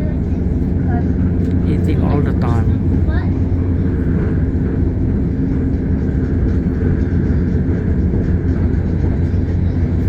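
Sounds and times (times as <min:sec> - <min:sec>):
train rumble and hum: 0:00.0 - 0:10.0.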